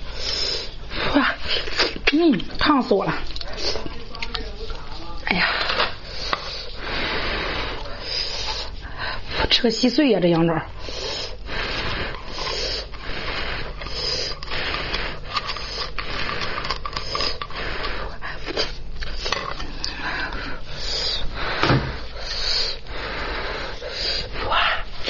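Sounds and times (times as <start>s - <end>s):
wet chewing and mouth noises: 0.0s - 9.4s, 10.8s - 25.0s.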